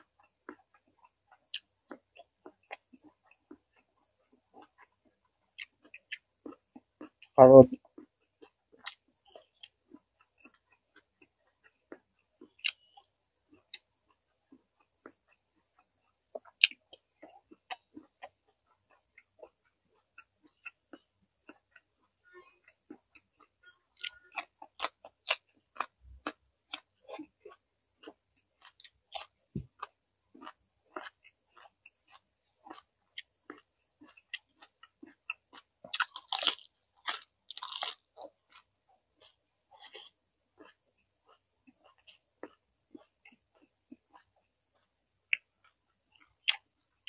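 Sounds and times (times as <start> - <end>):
chewing crunchy vegetables: 0.0 - 47.0.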